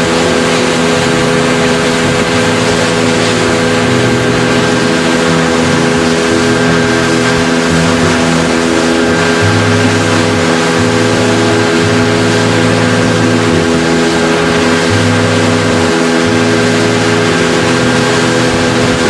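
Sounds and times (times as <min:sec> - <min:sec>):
outboard motor running: 0:00.0 - 0:19.0
rush of water and wind: 0:00.0 - 0:19.0.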